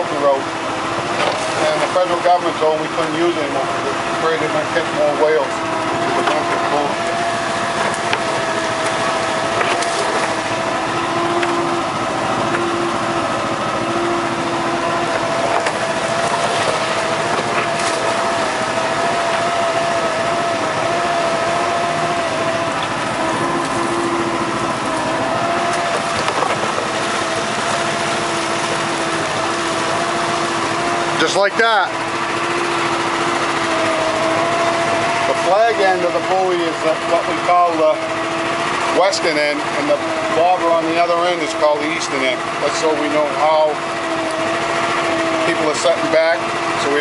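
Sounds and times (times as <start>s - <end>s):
outboard motor running: 0.0s - 47.0s
water rushing along hull: 0.0s - 47.0s.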